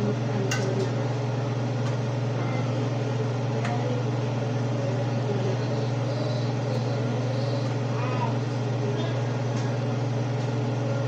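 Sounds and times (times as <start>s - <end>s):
fan motor humming: 0.0s - 11.0s.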